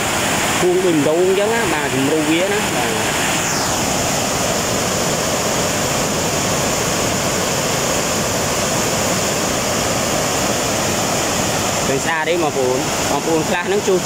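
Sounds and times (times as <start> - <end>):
rapids rushing over rocks: 0.0 - 14.0.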